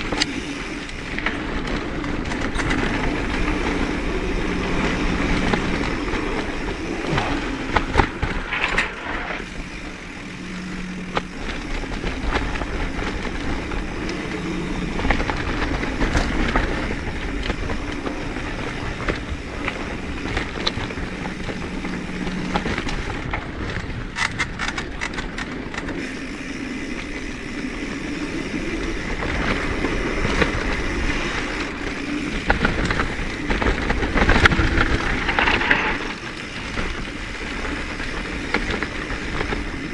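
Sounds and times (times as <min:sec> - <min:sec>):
bike rattling and knocking: 0:00.0 - 0:39.9
bike tyres on dirt trail: 0:00.0 - 0:39.9.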